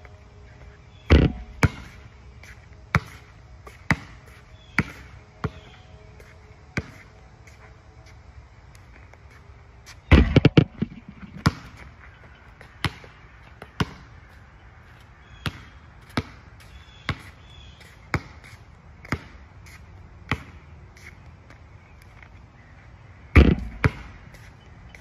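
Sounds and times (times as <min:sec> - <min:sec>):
basketball bouncing on asphalt: 0:00.6 - 0:07.1, 0:10.0 - 0:22.2, 0:23.3 - 0:25.0.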